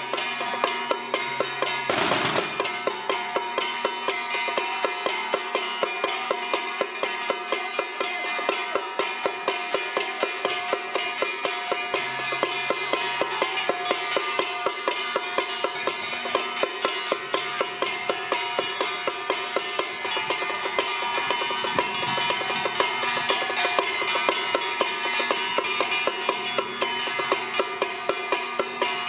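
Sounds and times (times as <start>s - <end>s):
cymbals clashing: 0.0s - 29.0s
drum beating fast rhythm: 0.0s - 29.0s
steady ringing tones: 0.0s - 29.0s.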